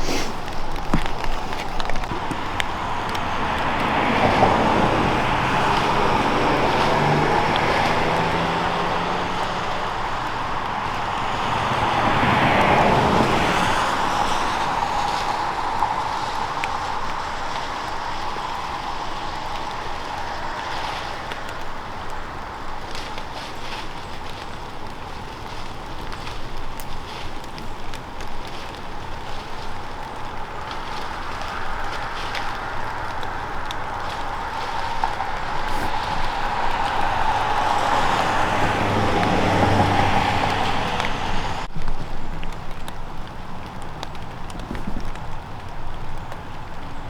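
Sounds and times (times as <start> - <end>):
vehicles driving past: 0.1 - 47.0.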